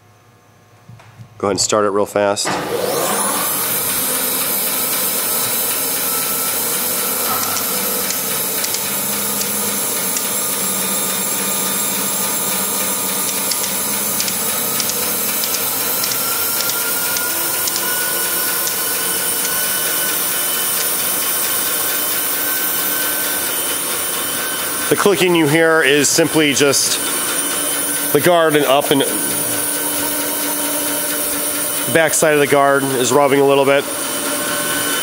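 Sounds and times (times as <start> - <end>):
band saw whining: 2.4 - 35.0.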